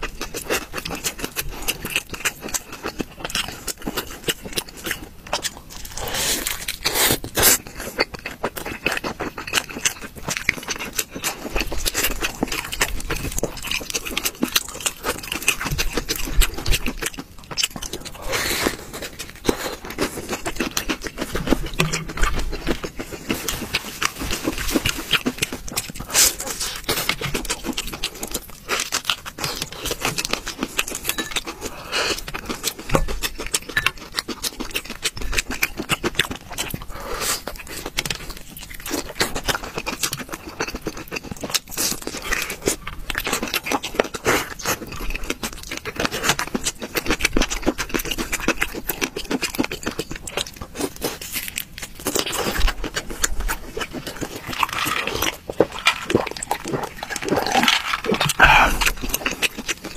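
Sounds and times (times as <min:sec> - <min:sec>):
crunching and chewing fried food: 0:00.0 - 0:59.9.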